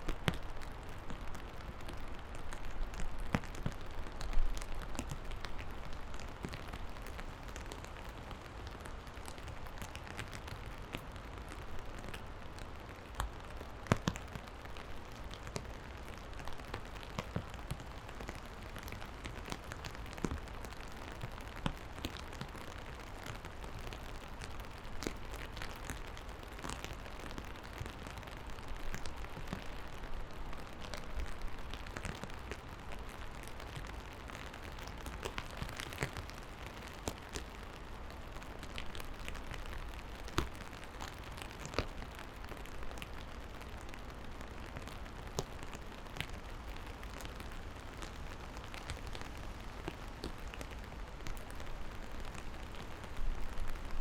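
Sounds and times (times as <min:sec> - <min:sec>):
raindrops ticking: 0:00.0 - 0:54.0
steady rain: 0:00.0 - 0:54.0.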